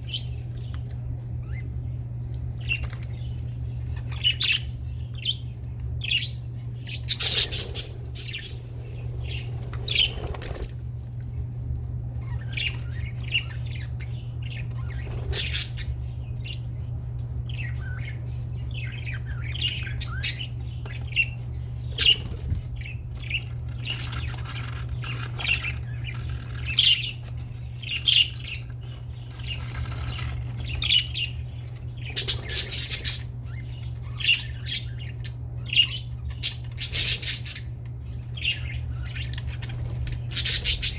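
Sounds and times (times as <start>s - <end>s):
steady low hum: 0.0s - 40.9s
budgerigars squawking and chirping: 2.5s - 10.6s, 12.2s - 40.9s.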